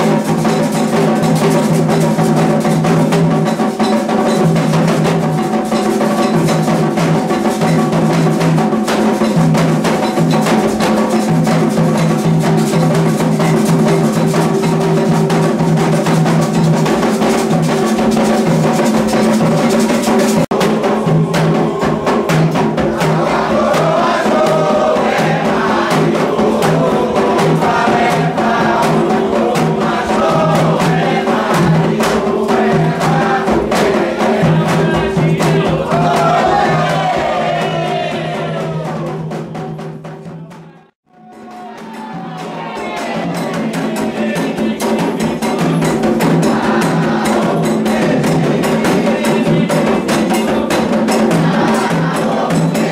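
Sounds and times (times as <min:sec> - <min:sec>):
group of voices singing: 0:00.0 - 0:52.9
hand drums playing: 0:00.0 - 0:52.9.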